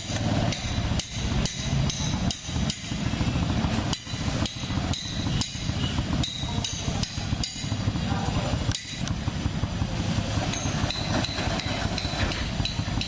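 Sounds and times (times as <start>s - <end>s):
sharp engine knocks: 0.0s - 13.0s
small petrol engine running: 0.0s - 13.0s.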